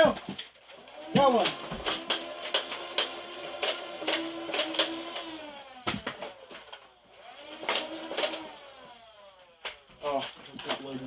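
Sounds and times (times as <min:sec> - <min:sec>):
flywheel motor whine: 0:00.7 - 0:09.7.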